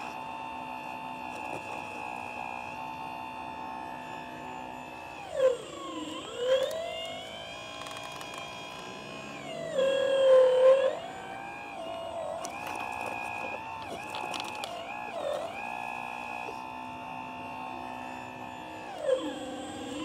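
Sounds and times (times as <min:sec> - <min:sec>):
toy excavator motors whining: 0:00.0 - 0:20.0.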